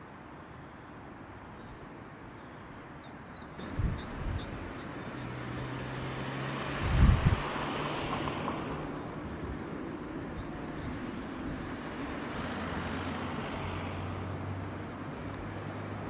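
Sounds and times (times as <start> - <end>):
road traffic with engine hum: 0.0 - 16.0.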